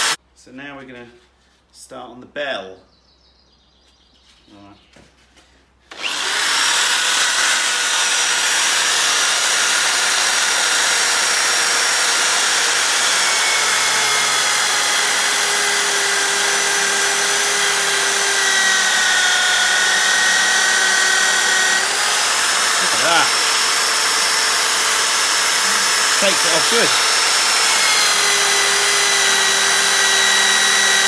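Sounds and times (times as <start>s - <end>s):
electric drill running: 5.9s - 31.0s.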